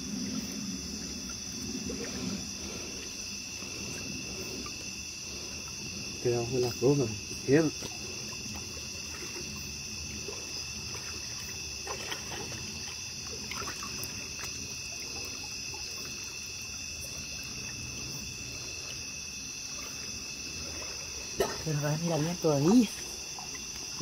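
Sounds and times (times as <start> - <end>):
crickets chirring: 0.0 - 24.0
faint water trickling: 0.0 - 24.0.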